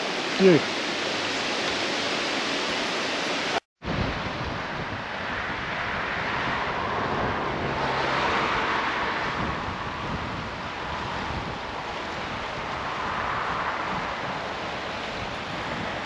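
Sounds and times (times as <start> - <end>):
waterfall and creek rushing: 0.0 - 5.3, 7.1 - 16.0.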